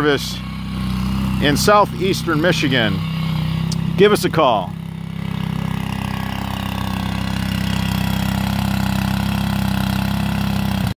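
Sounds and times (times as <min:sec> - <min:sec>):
small gasoline engine running: 0:00.0 - 0:11.0.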